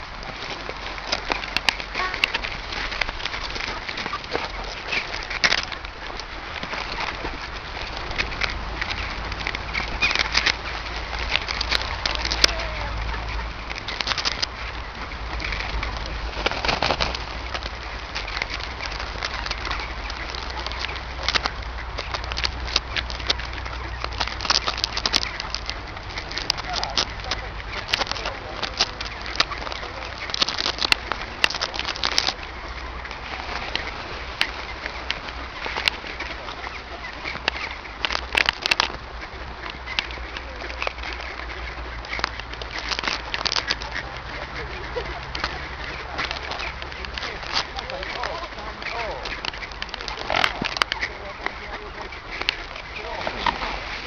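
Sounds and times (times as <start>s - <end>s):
duck and swan calls: 0.0s - 54.0s
water splashing: 0.0s - 54.0s
wings flapping: 0.0s - 54.0s.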